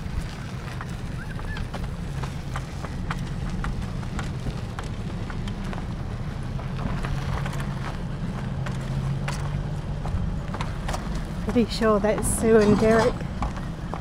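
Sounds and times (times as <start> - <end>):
engine and road drone: 0.0 - 14.0
sharp clicks and ticks: 0.0 - 14.0.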